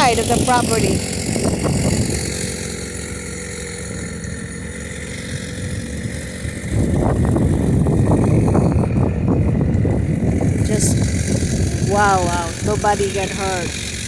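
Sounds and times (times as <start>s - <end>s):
rough low rumble: 0.0s - 14.0s
vehicle engine humming: 0.0s - 14.0s.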